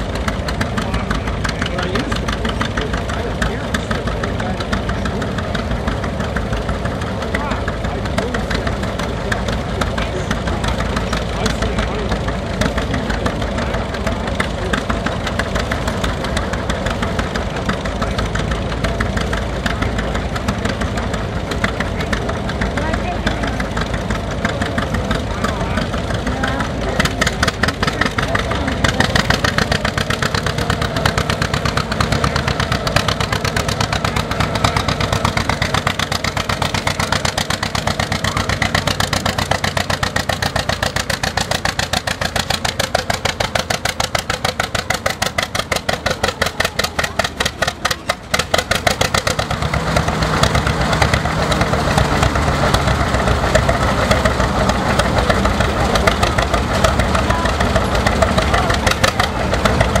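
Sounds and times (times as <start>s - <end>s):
tractor engine under load: 0.0s - 60.0s.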